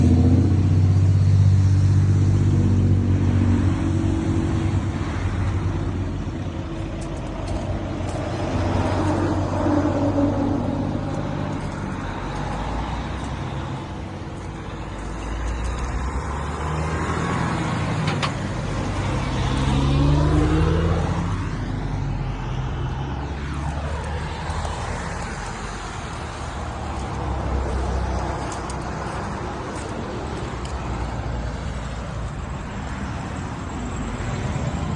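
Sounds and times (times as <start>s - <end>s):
road traffic engines: 0.0s - 34.9s
vehicle passing by: 0.0s - 34.9s.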